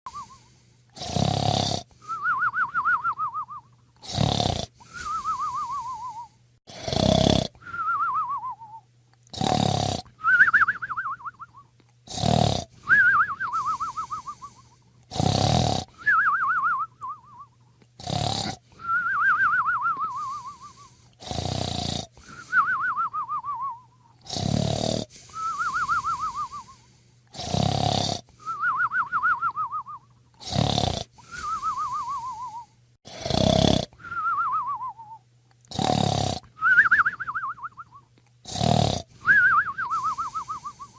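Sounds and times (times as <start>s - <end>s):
person snoring with whistle: 0.1s - 40.9s.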